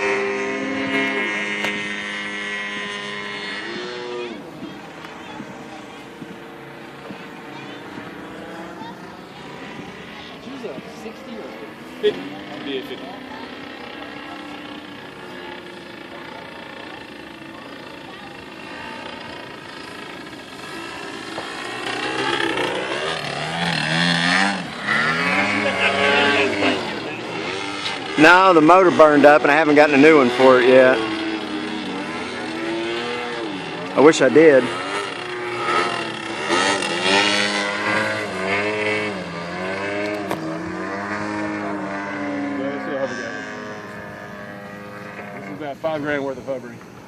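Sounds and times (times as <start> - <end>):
model airplane engine: 0.0 - 47.0.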